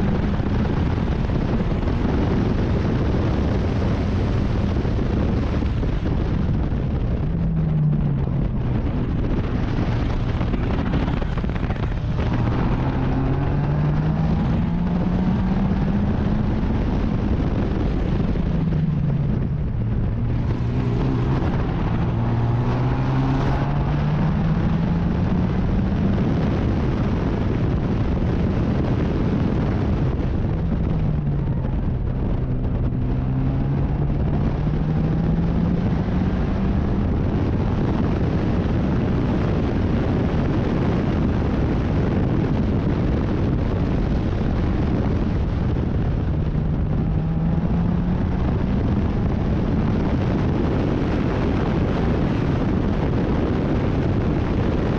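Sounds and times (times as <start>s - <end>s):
racing car engine accelerating: 0.0s - 54.9s
wind and road rumble: 0.0s - 54.9s.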